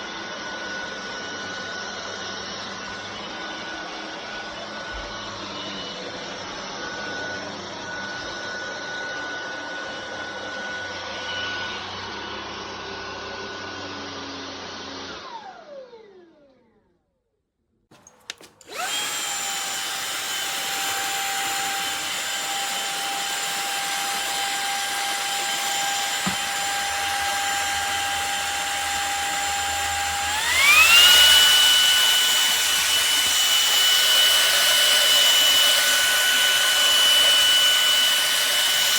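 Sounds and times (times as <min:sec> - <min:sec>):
vacuum cleaner motor whine: 0:00.0 - 0:16.7, 0:18.0 - 0:38.9.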